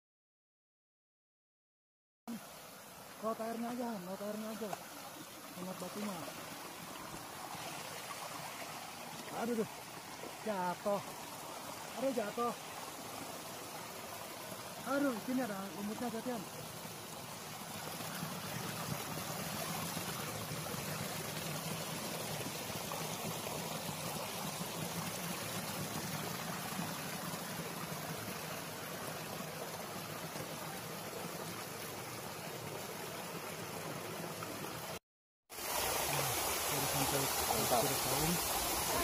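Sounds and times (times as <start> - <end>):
stream water flowing: 2.3 - 39.0.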